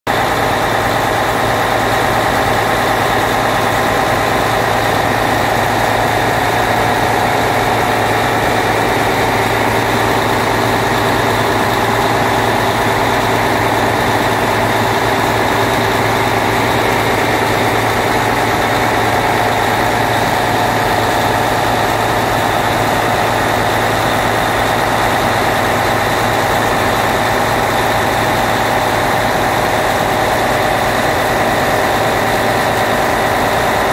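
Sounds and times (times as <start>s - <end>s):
turbocharged engine idling: 0.1s - 33.9s.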